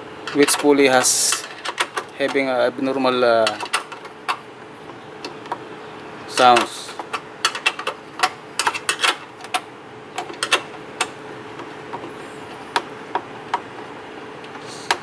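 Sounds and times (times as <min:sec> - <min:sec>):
faint steady hum: 0:00.0 - 0:15.0
tools clicking and knocking: 0:00.2 - 0:05.6, 0:06.3 - 0:15.0.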